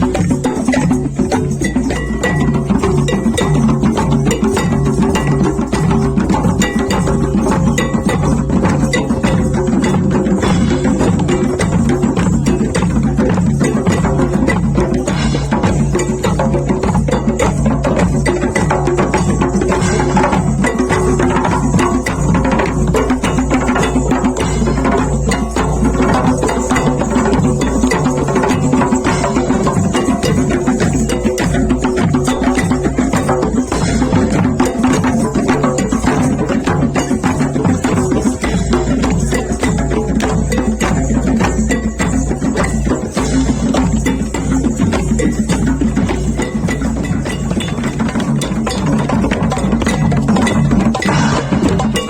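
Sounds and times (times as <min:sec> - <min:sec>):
drums and percussion beat: 0:00.0 - 0:52.0.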